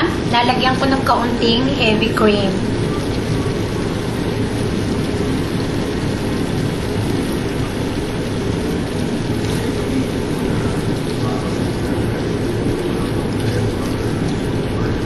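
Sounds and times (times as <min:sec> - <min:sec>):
sauce bubbling in a pan: 0:00.0 - 0:15.0.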